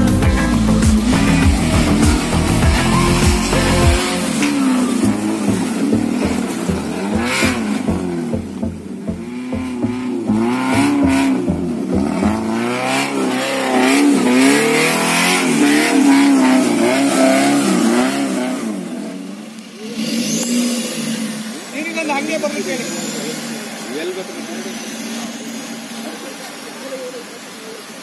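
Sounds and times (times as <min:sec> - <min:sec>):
car engine revving: 0:00.0 - 0:27.8.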